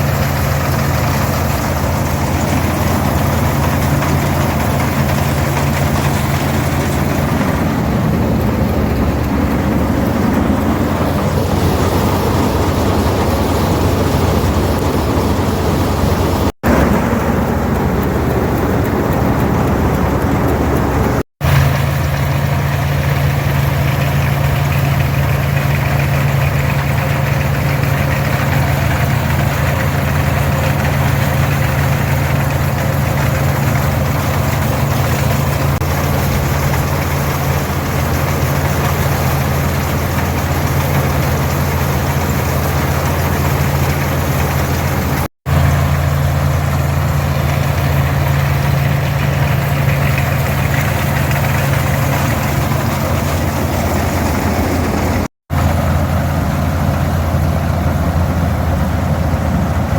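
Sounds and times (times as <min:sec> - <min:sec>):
combine machinery: 0:00.0 - 0:59.9
tractor diesel engine drone: 0:00.0 - 0:59.9.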